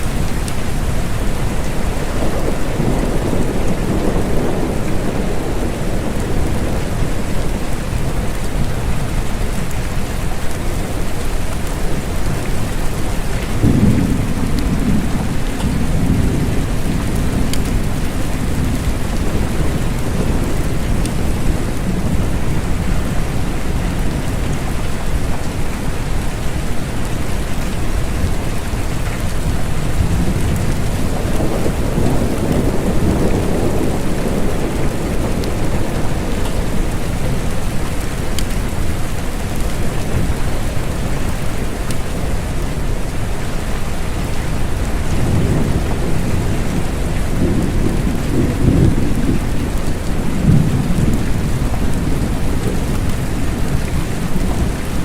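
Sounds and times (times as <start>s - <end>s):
rolling thunder: 0.0s - 9.8s, 11.9s - 25.3s, 29.2s - 42.9s, 44.5s - 55.0s
steady rain: 0.0s - 55.0s.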